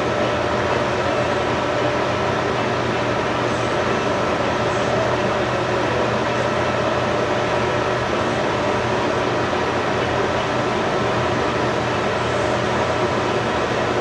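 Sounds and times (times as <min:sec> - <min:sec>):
mechanical hum with rushing noise: 0:00.0 - 0:14.0.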